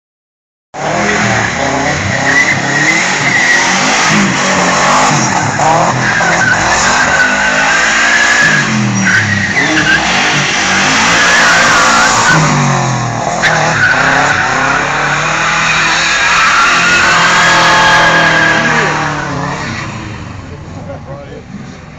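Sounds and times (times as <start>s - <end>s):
car engine revving: 0.8s - 21.9s.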